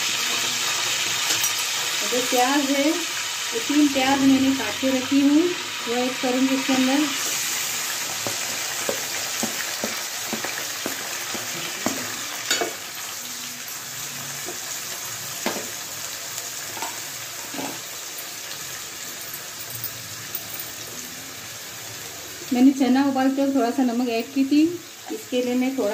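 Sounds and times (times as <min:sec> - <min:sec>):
onions sizzling in hot oil: 0:00.0 - 0:25.9.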